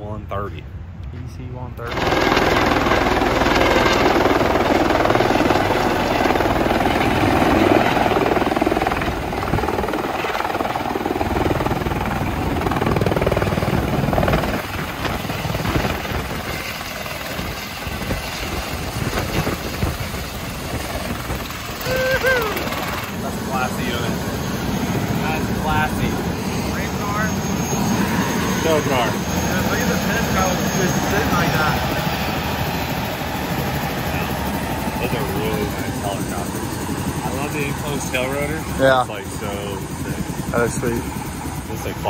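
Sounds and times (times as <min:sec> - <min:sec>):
helicopter rotor and turbine: 0:01.7 - 0:42.0.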